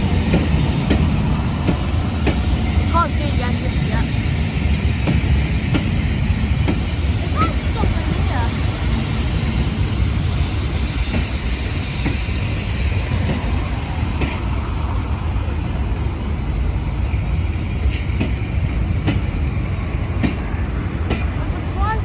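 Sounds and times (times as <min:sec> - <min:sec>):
train coaches rumbling: 0:00.0 - 0:22.0.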